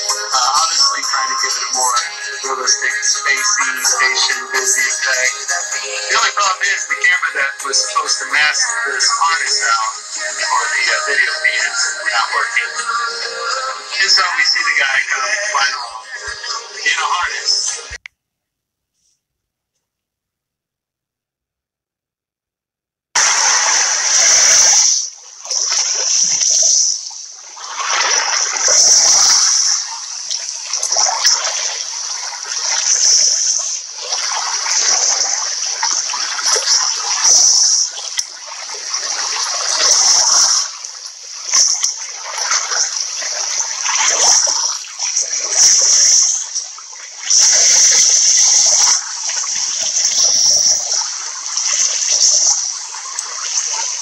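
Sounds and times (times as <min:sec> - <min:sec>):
lake water lapping at shore: 0:00.0 - 0:18.0, 0:23.2 - 0:54.0.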